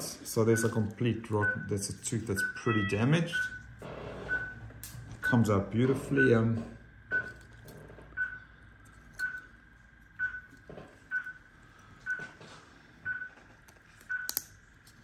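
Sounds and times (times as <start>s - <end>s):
patient monitor beeping: 0.0s - 14.4s.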